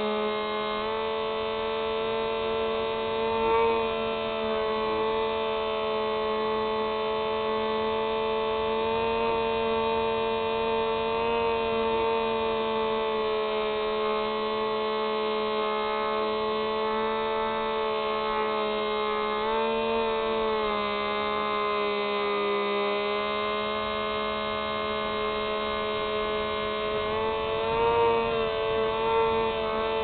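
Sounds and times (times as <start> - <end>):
model plane motor droning whine: 0.0 - 30.0.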